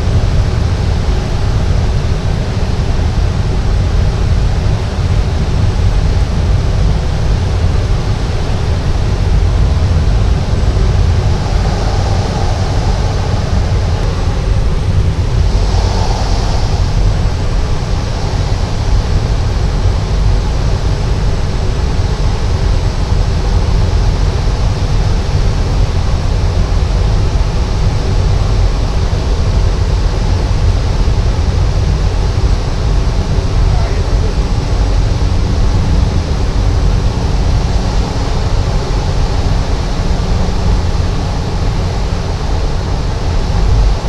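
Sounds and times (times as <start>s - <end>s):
turboprop engine and propeller: 0.0s - 44.0s.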